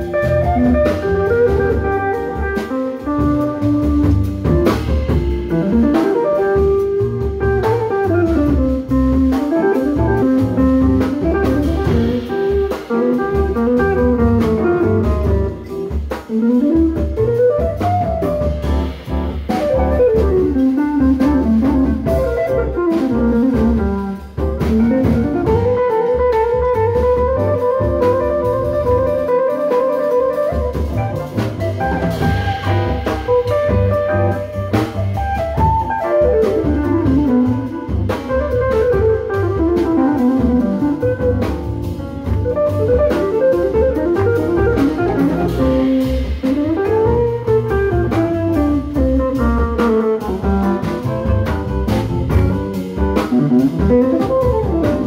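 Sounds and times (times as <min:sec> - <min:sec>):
double bass: 0:00.0 - 0:55.0
drum kit groove: 0:00.0 - 0:55.0
electric guitar melody: 0:00.0 - 0:55.0.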